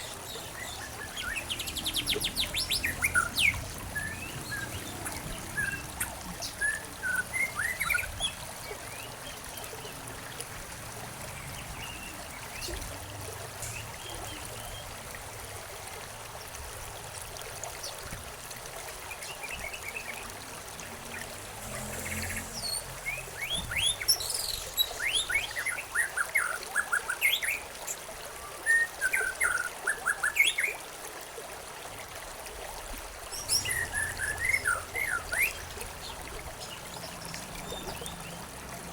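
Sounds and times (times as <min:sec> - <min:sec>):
songbirds chirping: 0:00.0 - 0:15.3, 0:19.0 - 0:30.8, 0:33.3 - 0:38.9
stream water trickling: 0:00.0 - 0:38.9.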